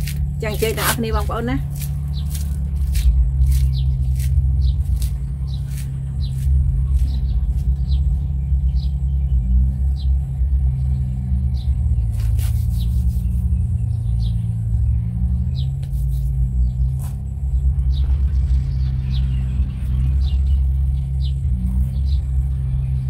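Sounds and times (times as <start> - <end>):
motor rumble: 0.0 - 23.0.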